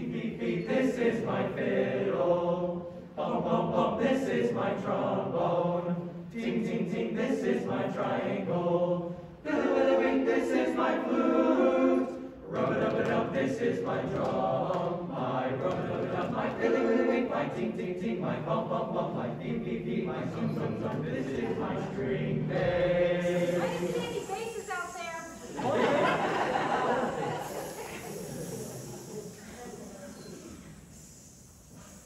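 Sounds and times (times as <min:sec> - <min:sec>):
mixed choir singing: 0:00.0 - 0:31.0.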